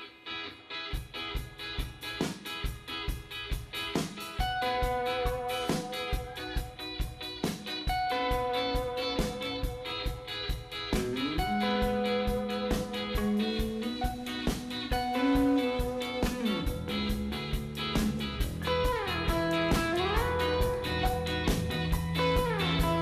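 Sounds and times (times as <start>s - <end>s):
electric guitars: 0.0s - 23.0s
bass guitar: 1.0s - 23.0s
drum beat: 1.0s - 23.0s.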